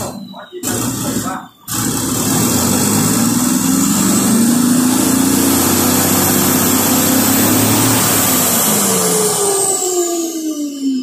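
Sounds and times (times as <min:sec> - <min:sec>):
high-pitched turbo whine: 0:00.0 - 0:11.0
diesel truck engine revving: 0:00.6 - 0:10.4.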